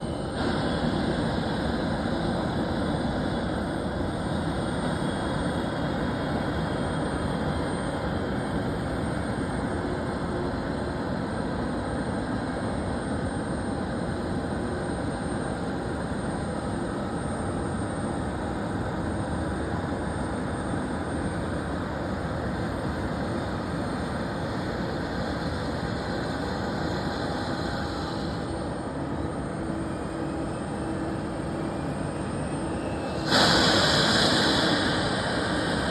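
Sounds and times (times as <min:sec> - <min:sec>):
faint high whine: 0:00.0 - 0:35.9
jet aircraft noise: 0:00.0 - 0:35.9.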